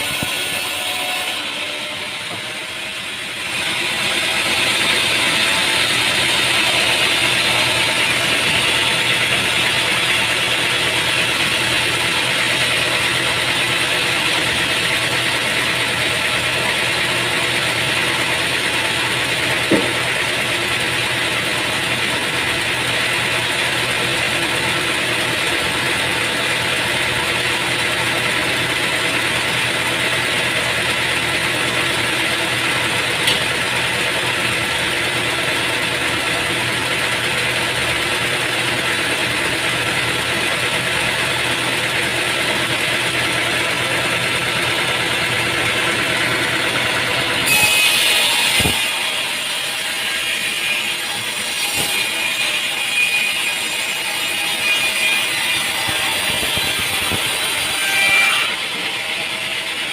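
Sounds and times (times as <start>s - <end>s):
sawmill machinery hum and whine: 0.0s - 59.9s.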